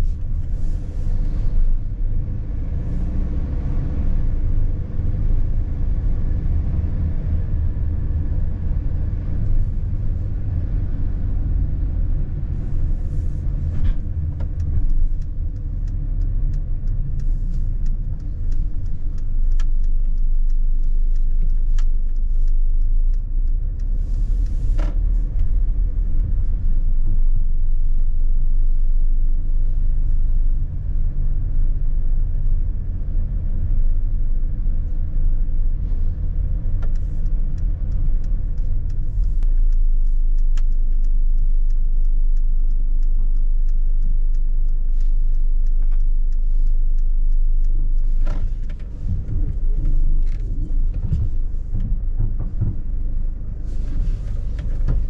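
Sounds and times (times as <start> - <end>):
van engine and road rumble: 0.0 - 55.0
short ticks and rattles: 7.6 - 55.0.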